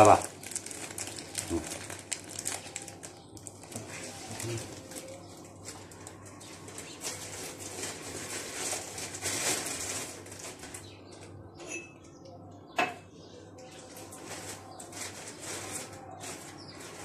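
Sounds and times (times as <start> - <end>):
plastic bag rustling: 0.0 - 11.4, 13.7 - 17.0.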